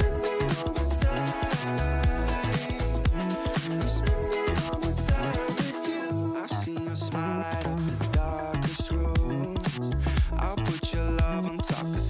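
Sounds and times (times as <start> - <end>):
dance-pop music with steady beat: 0.0 - 12.0.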